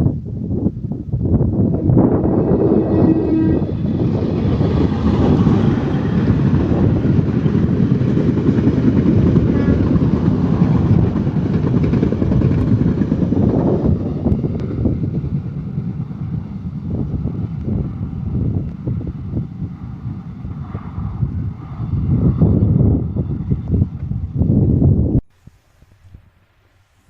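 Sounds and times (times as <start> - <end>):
train rumbling past: 1.2 - 25.2.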